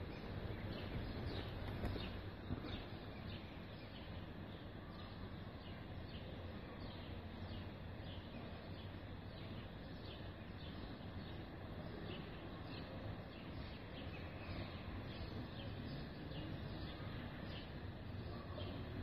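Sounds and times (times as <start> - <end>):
outdoor background hum: 0.0 - 19.0
small birds chirping: 0.0 - 19.0.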